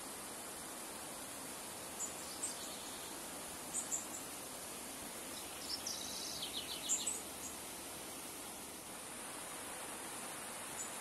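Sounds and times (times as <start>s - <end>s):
river running over stones: 0.0s - 11.0s
small birds chirping: 1.1s - 11.0s.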